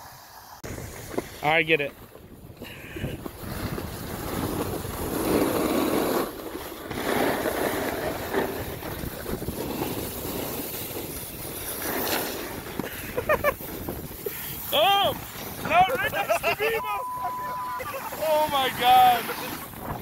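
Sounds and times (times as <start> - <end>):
snowboard scraping over snow: 0.0 - 20.0.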